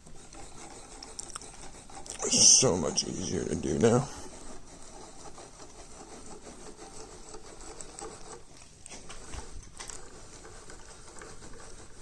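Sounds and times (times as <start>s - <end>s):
lathe slide rubbing and clicking: 0.0s - 12.0s.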